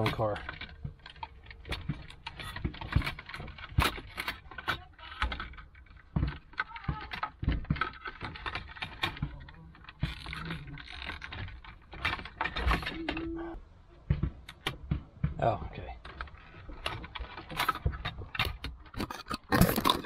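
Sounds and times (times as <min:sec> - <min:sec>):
plastic panel clicks and rattles: 0:00.0 - 0:13.4, 0:14.0 - 0:20.0.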